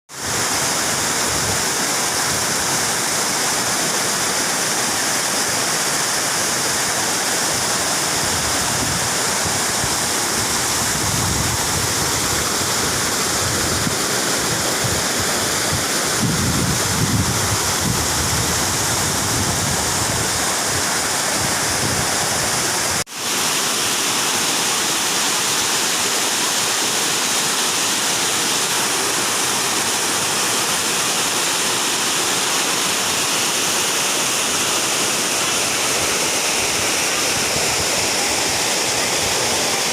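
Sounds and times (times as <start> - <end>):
small waterfall pouring: 0.1 - 39.9.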